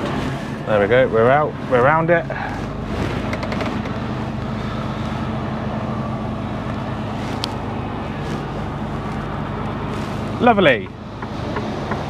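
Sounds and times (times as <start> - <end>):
diesel engine humming: 0.0 - 12.0
road noise: 0.0 - 12.0.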